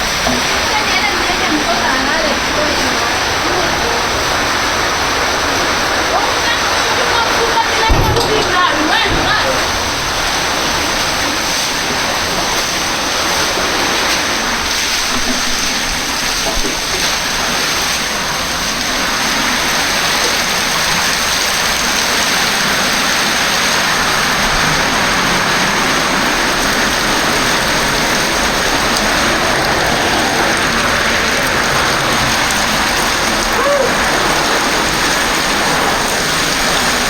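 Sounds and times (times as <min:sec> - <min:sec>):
heavy rain: 0:00.0 - 0:37.0
running water: 0:00.0 - 0:37.0.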